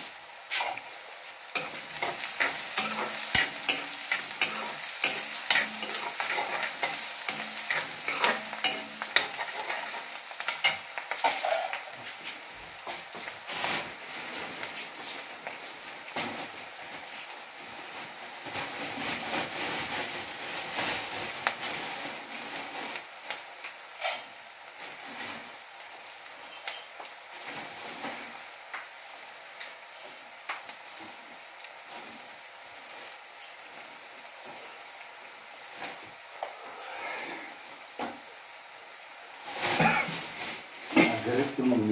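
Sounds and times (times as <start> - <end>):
onions sizzling in hot oil: 0.0 - 41.9.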